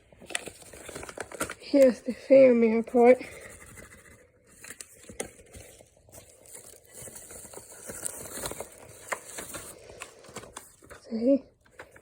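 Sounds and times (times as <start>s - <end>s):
paper and plastic rustling: 0.0s - 2.2s, 2.8s - 12.0s.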